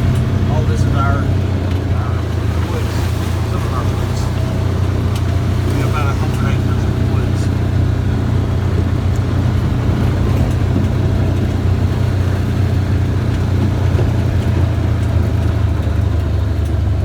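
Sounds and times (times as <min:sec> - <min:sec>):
road noise on dirt road: 0:00.0 - 0:17.0
vehicle engine droning: 0:00.0 - 0:17.0.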